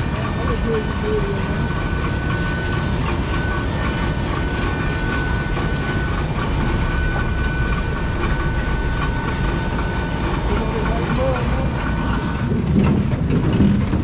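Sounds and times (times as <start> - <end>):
deep engine rumble: 0.0 - 14.0
steady high whine: 0.0 - 14.0.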